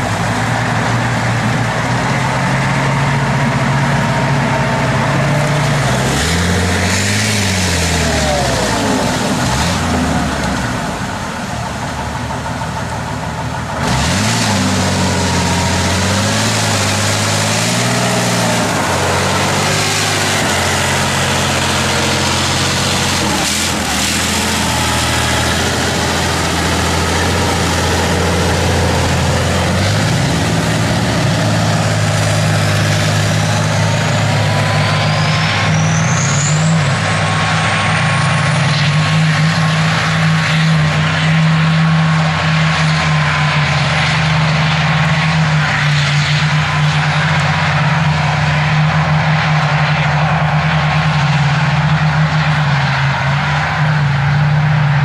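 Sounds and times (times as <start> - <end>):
tracked vehicle diesel engine: 0.0 - 55.0.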